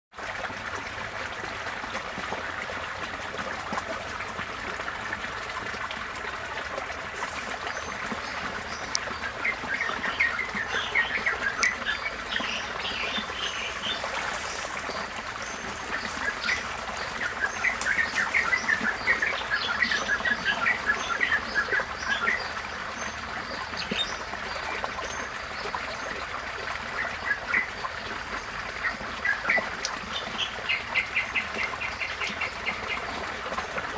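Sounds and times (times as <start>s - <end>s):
floodwater flowing: 0.1s - 33.9s.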